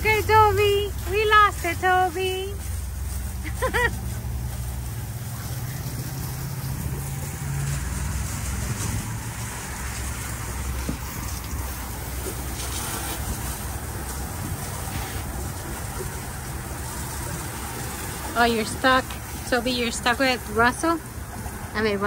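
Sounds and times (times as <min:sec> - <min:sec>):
boat engine idling: 0:00.0 - 0:22.0
water noise: 0:00.0 - 0:22.0
wind: 0:00.0 - 0:22.0.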